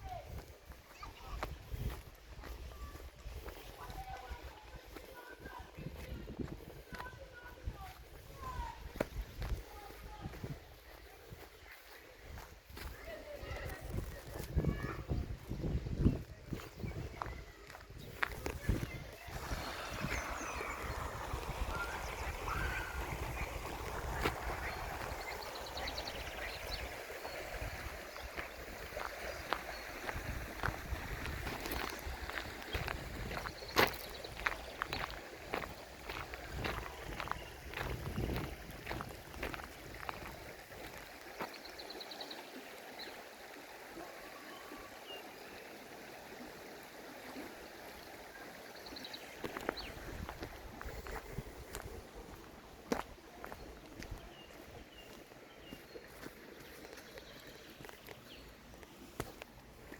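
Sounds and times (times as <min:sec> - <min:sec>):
small birds chirping: 0:00.1 - 0:43.2, 0:48.3 - 0:59.9
stream water rushing: 0:06.4 - 0:59.9.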